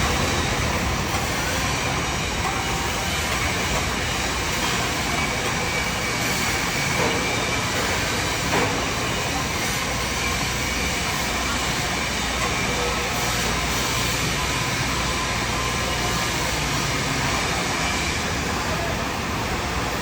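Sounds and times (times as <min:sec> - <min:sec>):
welding arc hissing: 0:00.0 - 0:18.4.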